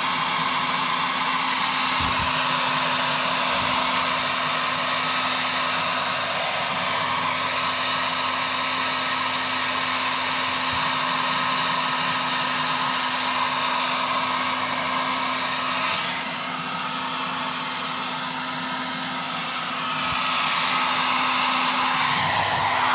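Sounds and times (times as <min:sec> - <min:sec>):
hair dryer blowing: 0:00.0 - 0:22.9.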